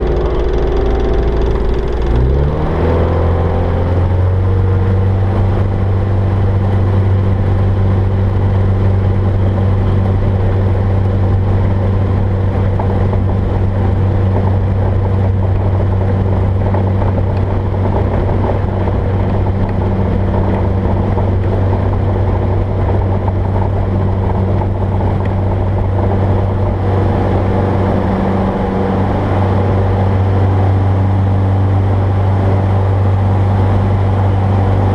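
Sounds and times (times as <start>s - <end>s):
light aircraft engine at full throttle: 0.0s - 34.9s.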